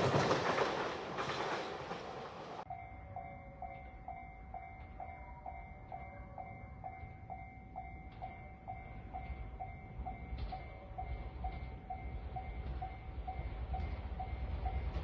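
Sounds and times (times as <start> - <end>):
level-crossing warning bell: 2.6 - 15.0.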